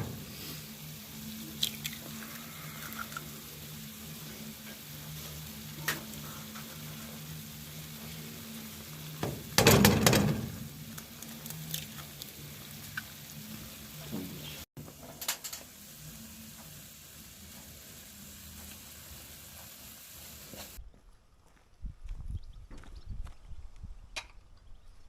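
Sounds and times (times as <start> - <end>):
food sizzling in a pan: 0.0 - 20.8.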